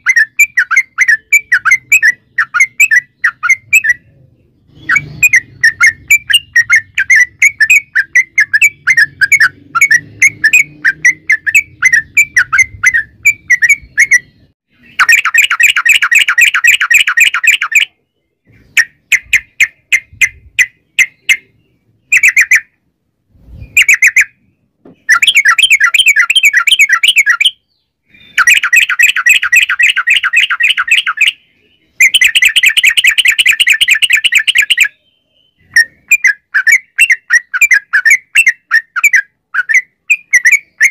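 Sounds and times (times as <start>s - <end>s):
bird chattering fast sharp notes: 0.0s - 22.8s, 23.4s - 24.4s, 25.0s - 27.6s, 28.2s - 31.4s, 32.0s - 34.9s, 35.6s - 40.9s.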